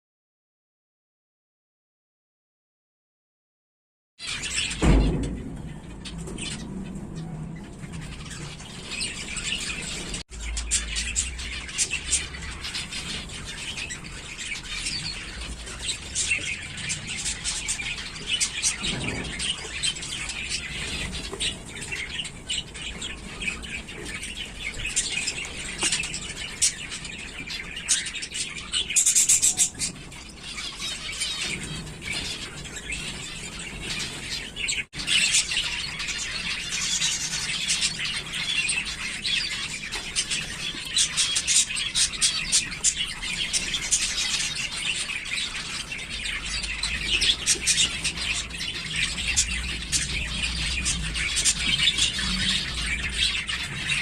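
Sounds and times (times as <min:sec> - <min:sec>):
finches chirping: 0:05.7 - 0:54.0.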